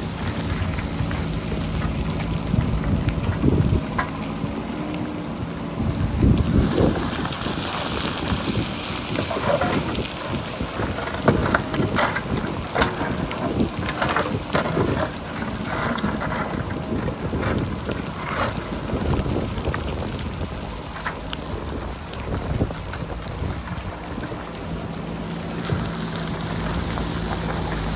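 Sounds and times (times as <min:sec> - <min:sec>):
backhoe loader working: 0:00.0 - 0:27.9
wind buffeting microphone: 0:00.0 - 0:27.9.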